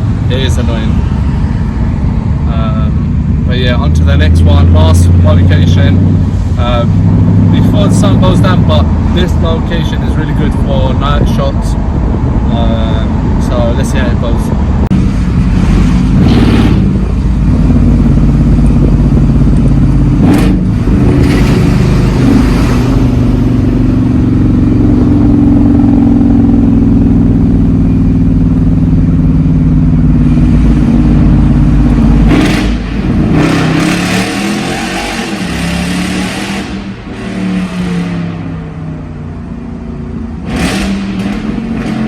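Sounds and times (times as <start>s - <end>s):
car engine droning: 0.0s - 42.0s.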